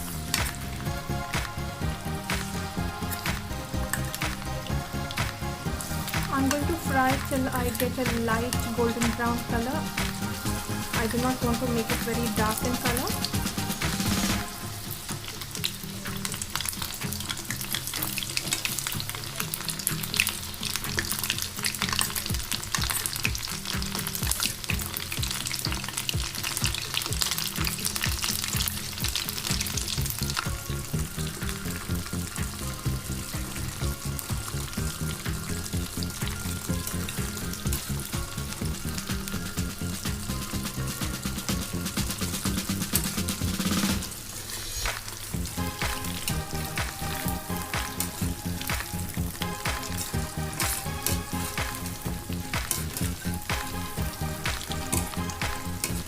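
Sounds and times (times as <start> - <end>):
background music with a beat: 0.0 - 56.0
chicken deep-frying in oil: 0.0 - 56.0.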